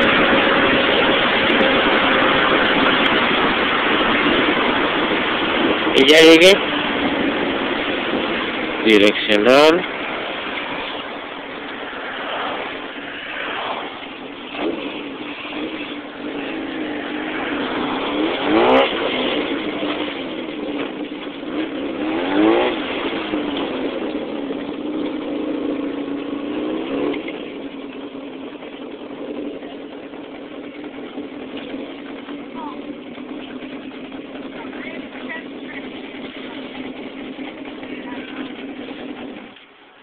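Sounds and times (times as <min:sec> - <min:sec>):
car engine from inside cabin: 0:00.0 - 0:39.6.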